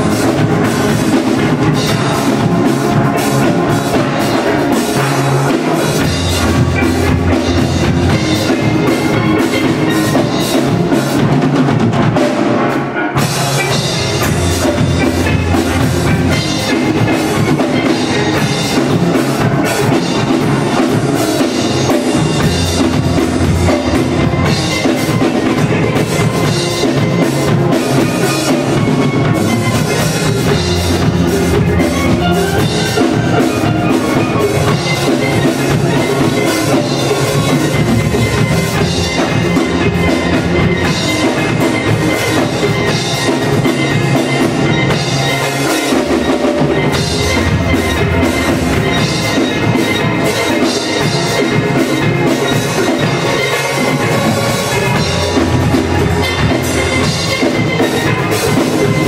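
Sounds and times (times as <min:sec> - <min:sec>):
steady drum beat: 0:00.0 - 0:59.0
steel drum band playing: 0:00.0 - 0:59.0.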